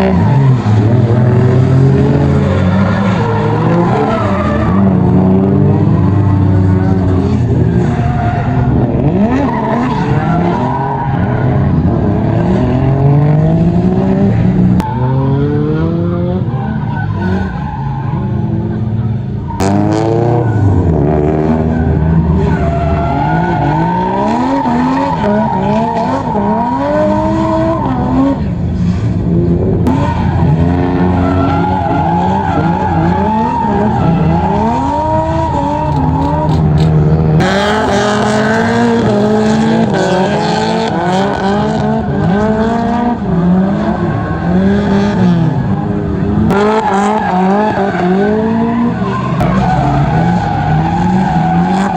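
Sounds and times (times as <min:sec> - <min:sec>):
car engines revving hard: 0:00.0 - 0:51.9.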